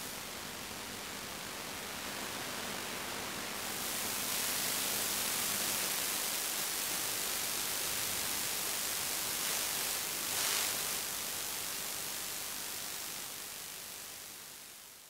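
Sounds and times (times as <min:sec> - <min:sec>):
static-like hiss: 0:00.0 - 0:15.0.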